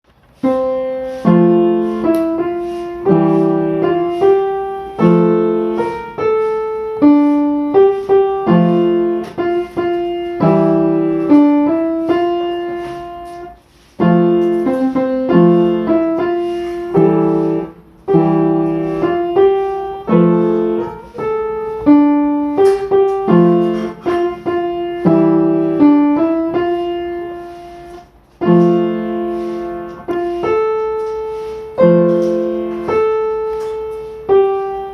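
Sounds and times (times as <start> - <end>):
slow solo piano: 0.1 - 34.9.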